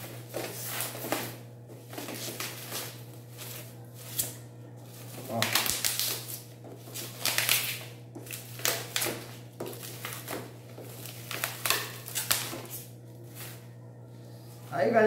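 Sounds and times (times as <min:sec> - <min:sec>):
bubble wrap crinkling: 0:00.0 - 0:13.8.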